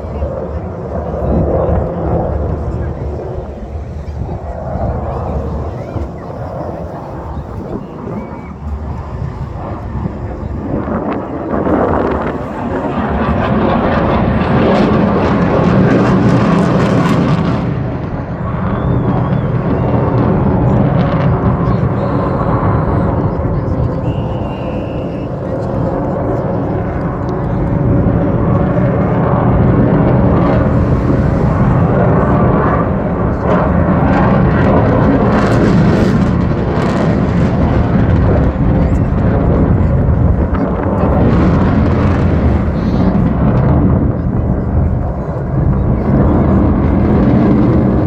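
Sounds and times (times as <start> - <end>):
plane flying past: 0.0 - 48.0.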